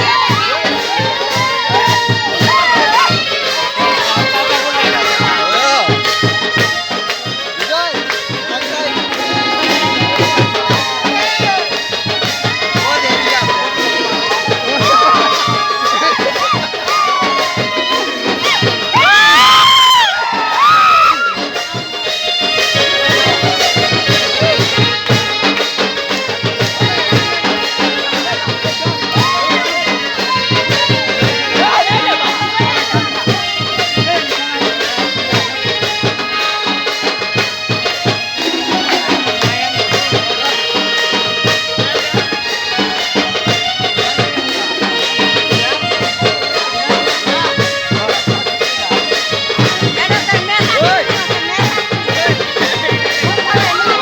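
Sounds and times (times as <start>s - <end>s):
fast drum beat: 0.0s - 54.0s
reed instrument melody: 0.0s - 54.0s.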